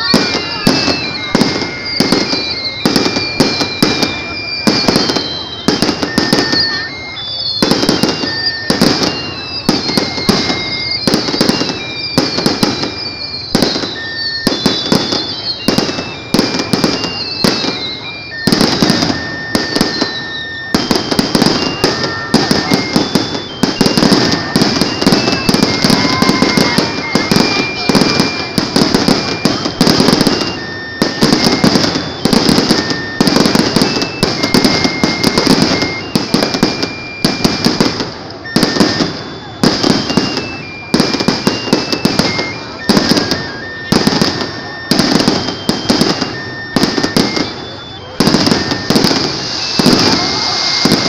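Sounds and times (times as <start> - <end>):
falling firework whistles: 0.0 - 51.0
firework bursts and bangs: 0.0 - 51.0.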